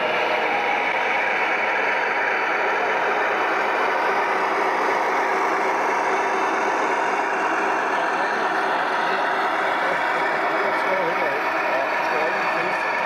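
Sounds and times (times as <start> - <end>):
model diesel engine sound: 0.0 - 13.0.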